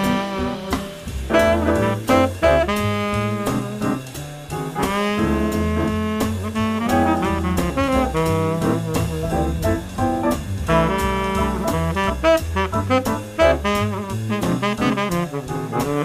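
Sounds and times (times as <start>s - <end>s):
bass notes: 0.0s - 16.0s
drums and cymbals: 0.0s - 16.0s
saxophone playing swing jazz: 0.0s - 16.0s.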